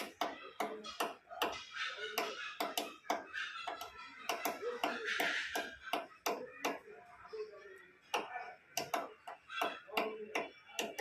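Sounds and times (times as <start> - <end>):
woodpecker tapping on wood: 0.0 - 6.9, 8.0 - 11.0.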